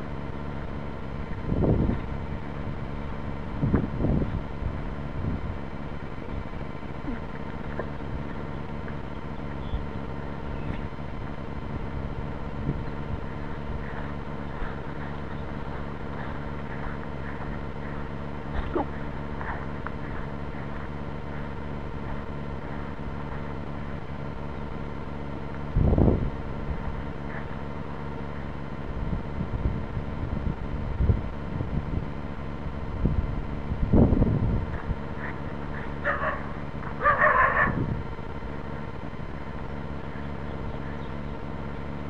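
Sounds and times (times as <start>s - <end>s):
electronic hum and hiss: 0.0s - 42.0s
loud rumble on microphone: 0.0s - 42.0s.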